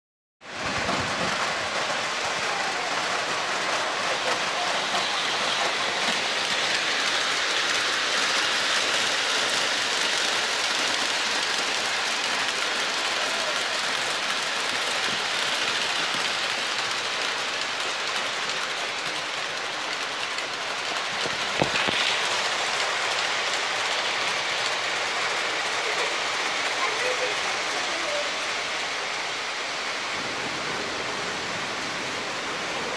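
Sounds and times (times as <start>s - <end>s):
model trains rolling: 0.5s - 32.9s.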